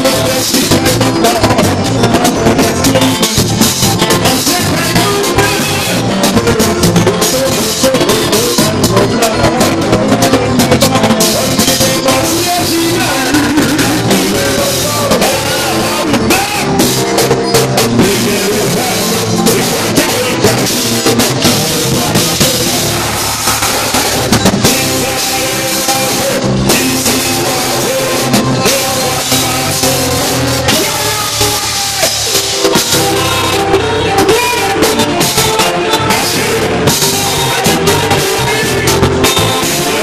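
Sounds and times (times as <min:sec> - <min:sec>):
man singing into microphone: 0:00.0 - 0:23.1, 0:24.6 - 0:40.0
congas: 0:00.0 - 0:40.0
drum kit: 0:00.0 - 0:40.0
electric guitar: 0:00.0 - 0:40.0
live band playing: 0:00.0 - 0:40.0.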